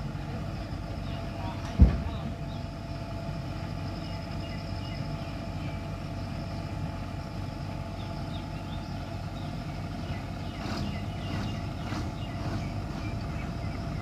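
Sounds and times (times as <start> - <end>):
heavy diesel engines droning: 0.0 - 14.0.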